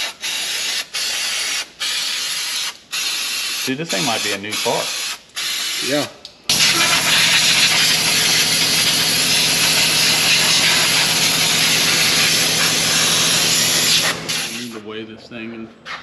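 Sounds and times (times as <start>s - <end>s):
air blow gun hissing: 0.0s - 14.8s.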